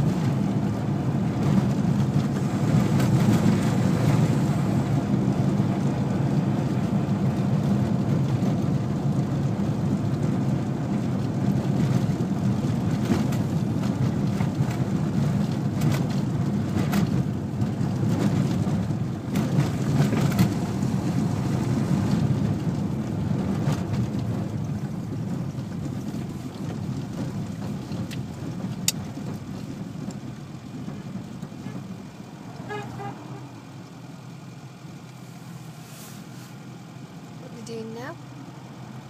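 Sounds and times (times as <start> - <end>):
car engine and tyre noise: 0.0 - 39.0.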